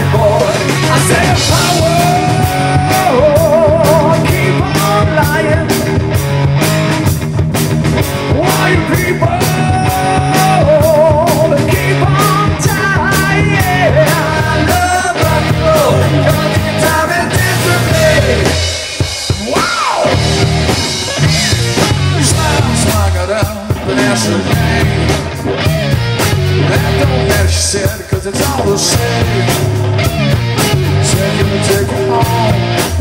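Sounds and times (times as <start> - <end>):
drum kit beat: 0.0 - 33.0
electric guitars and bass: 0.0 - 33.0
wavering lead guitar melody: 0.0 - 33.0.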